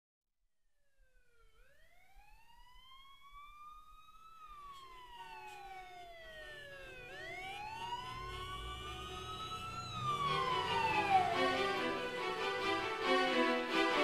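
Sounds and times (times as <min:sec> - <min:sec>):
wailing siren: 0:00.8 - 0:14.0.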